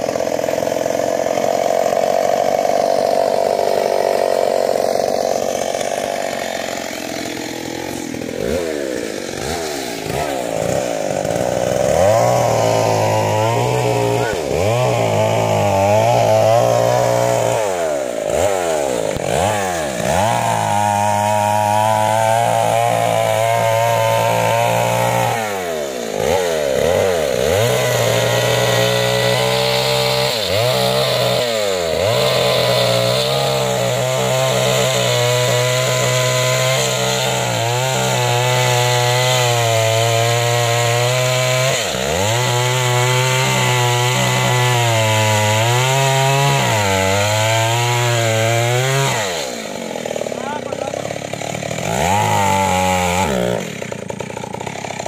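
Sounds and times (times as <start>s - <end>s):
chainsaw cutting tree: 0.0s - 55.0s.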